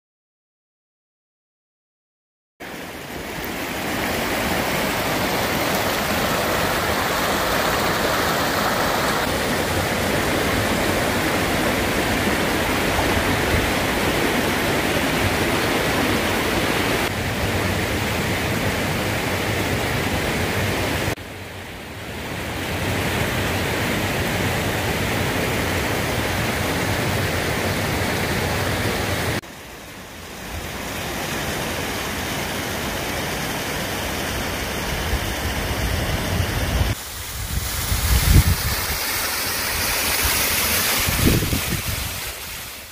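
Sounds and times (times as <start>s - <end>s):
rushing water: 2.6s - 42.9s.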